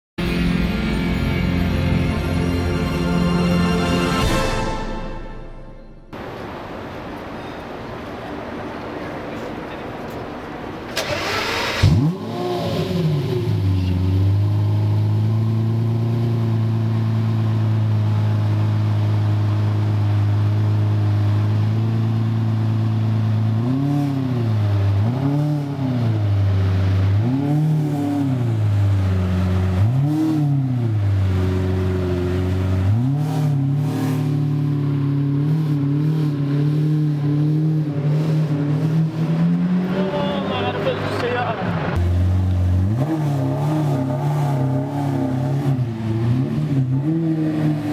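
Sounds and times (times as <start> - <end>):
car engine starting and idling: 6.0 - 47.9
engine throttle blips: 6.1 - 47.9.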